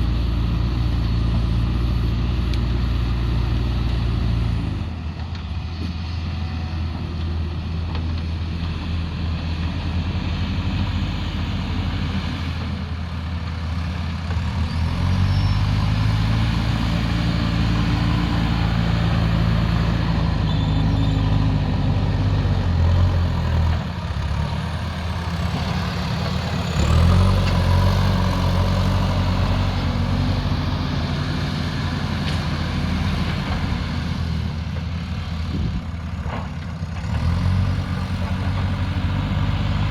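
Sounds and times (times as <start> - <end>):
diesel engine of earthmoving machine: 0.0 - 39.9.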